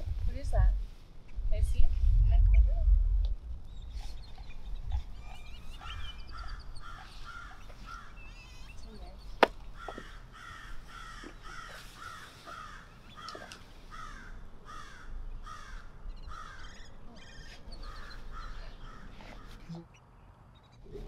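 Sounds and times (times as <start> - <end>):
high bird twittering: 3.6 - 21.0
bird calling harsh notes: 3.7 - 21.0.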